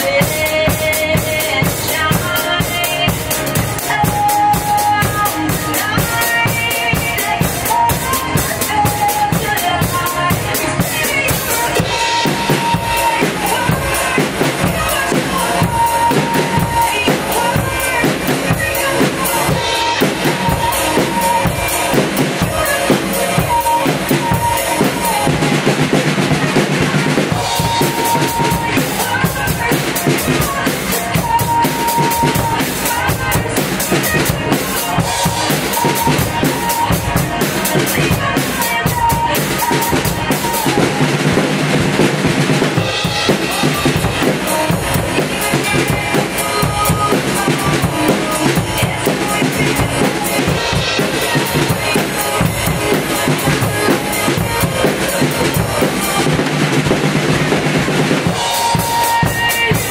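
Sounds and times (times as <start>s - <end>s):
drum kit playing: 0.0s - 59.9s
pop backing track: 0.0s - 59.9s.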